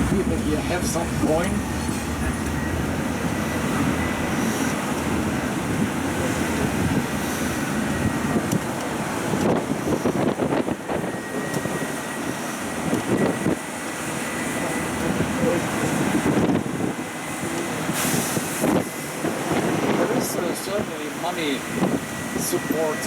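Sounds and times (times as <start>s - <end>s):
road train engine and road noise: 0.0s - 23.0s.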